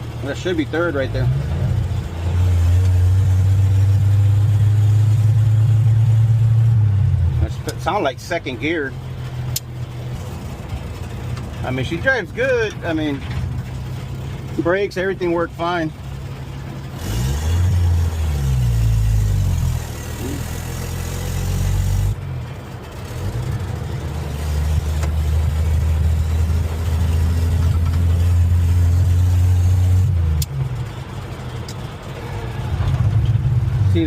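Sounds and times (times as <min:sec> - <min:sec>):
pickup engine pulling under load: 0:00.0 - 0:34.0.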